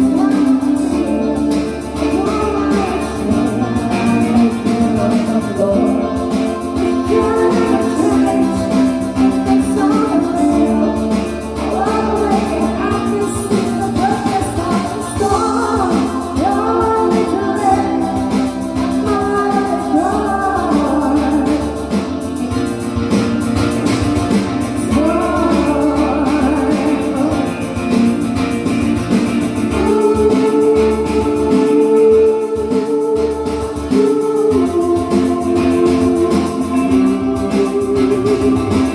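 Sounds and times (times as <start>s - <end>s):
guitar accompaniment: 0.0s - 38.9s
person singing pop song: 0.0s - 38.9s.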